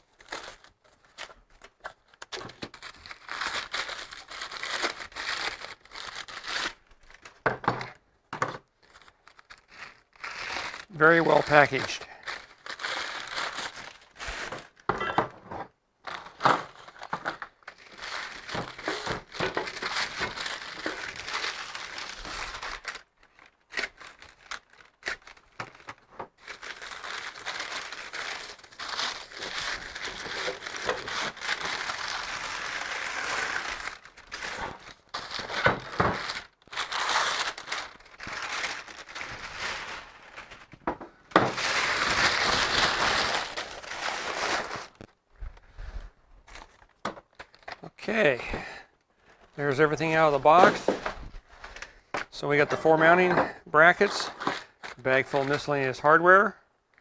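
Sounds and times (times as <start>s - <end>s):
packing material crinkling: 0.0s - 8.0s, 8.6s - 14.9s, 16.0s - 48.5s, 49.1s - 56.0s.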